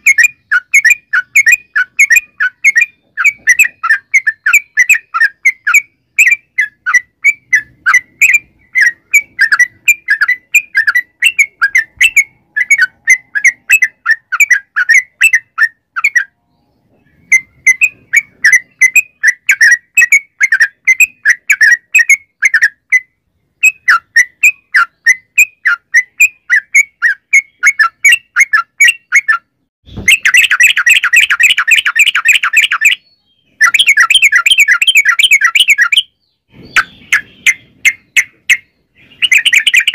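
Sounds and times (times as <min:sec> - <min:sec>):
bird singing rolling song: 0:00.0 - 0:39.9.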